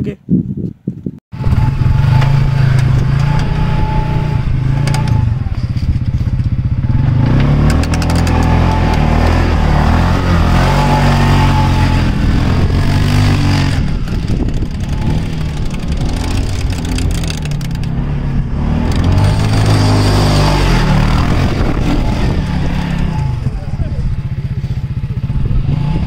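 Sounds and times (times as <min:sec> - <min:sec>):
buggy engine revving: 0:01.3 - 0:26.0.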